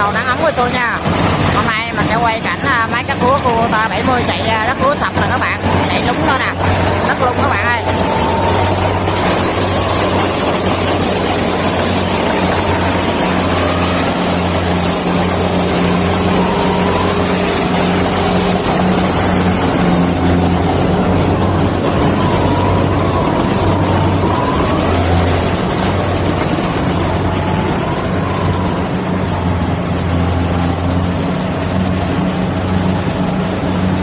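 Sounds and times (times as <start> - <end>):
combine harvester diesel engine: 0.0 - 34.0
threshing machinery: 0.0 - 34.0.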